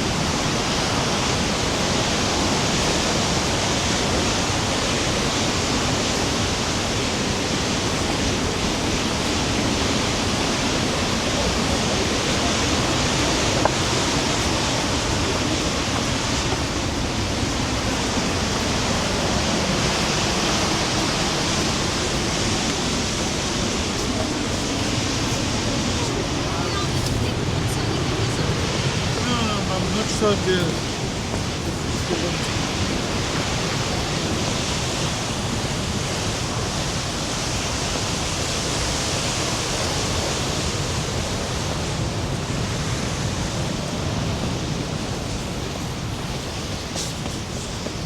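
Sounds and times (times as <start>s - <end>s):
water rushing over falls: 0.0s - 48.0s.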